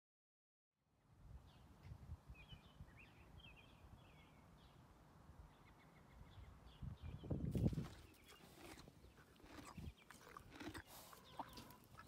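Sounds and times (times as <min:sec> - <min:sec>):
small birds chirping: 0:01.4 - 0:12.0.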